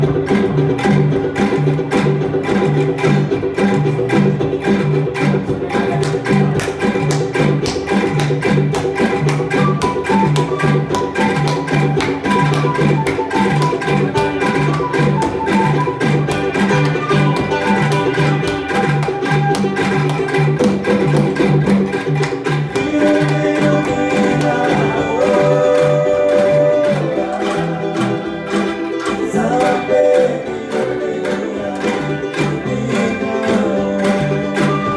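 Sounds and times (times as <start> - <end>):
bamboo rattling tremolo: 0.0 - 34.9.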